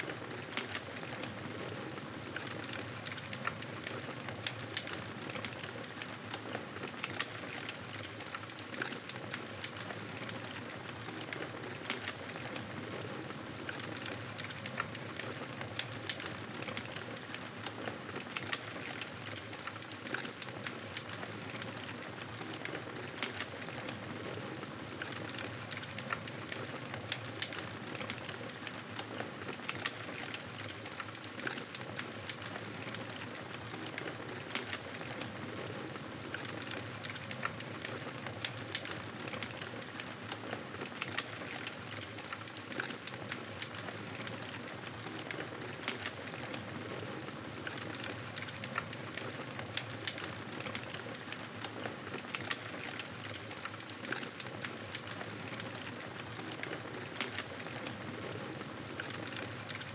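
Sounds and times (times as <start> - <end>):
burning wood crackling and popping: 0.0 - 59.9.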